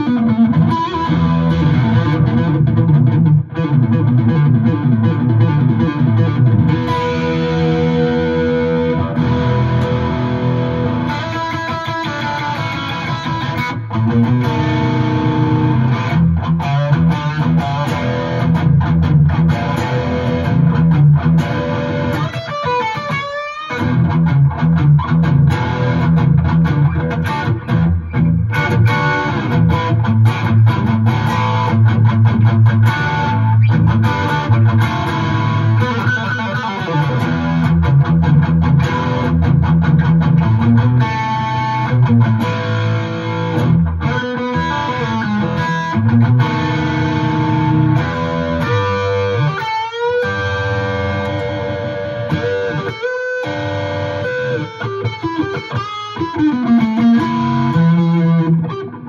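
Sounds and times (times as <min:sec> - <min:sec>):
electric guitar playing blues: 0:00.0 - 0:59.0.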